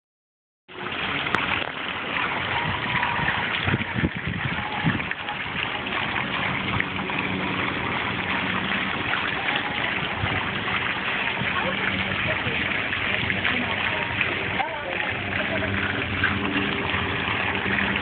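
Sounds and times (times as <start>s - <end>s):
fountain water splashing into basin: 0.7s - 18.0s.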